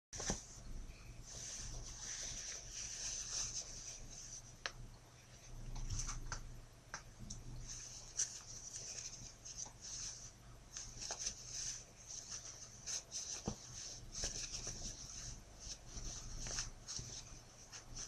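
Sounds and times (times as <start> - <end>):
cloth rustling and rubbing: 0.2 - 4.6, 7.6 - 18.0.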